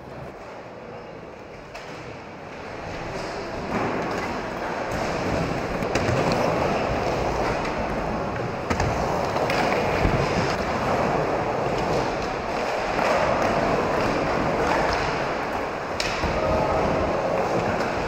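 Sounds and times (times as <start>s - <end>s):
skateboard wheels rolling on ramp: 0.0s - 18.0s
skateboard clacks: 1.5s - 18.0s.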